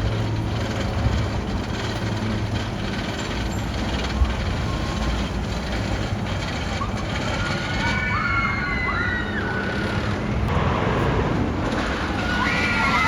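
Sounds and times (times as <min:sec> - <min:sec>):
roller coaster rushing rumble: 0:00.0 - 0:13.0.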